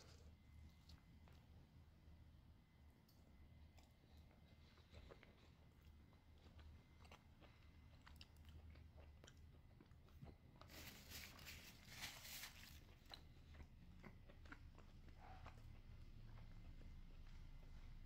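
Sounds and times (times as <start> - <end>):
person chewing food: 0.0 - 1.8, 3.0 - 18.0.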